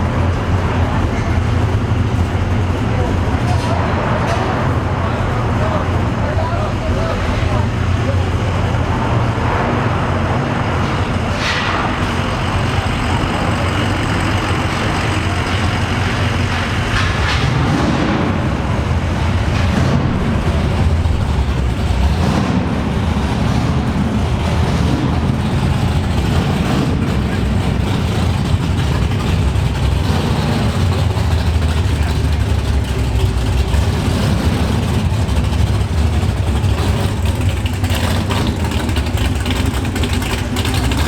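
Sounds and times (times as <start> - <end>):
car engine exhaust rumbling: 0.0 - 41.0.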